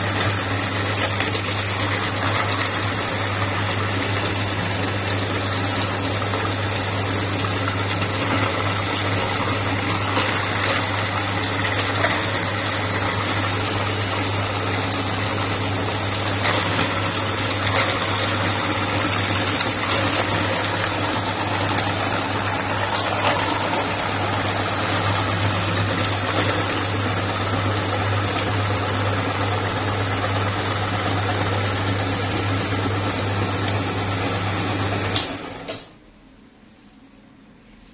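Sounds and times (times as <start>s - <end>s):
meat grinder motor humming: 0.0s - 35.9s.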